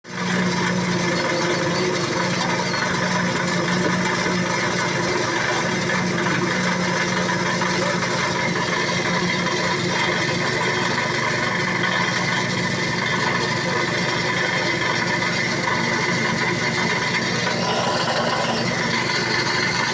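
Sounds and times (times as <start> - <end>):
engine humming steadily: 0.0 - 19.9.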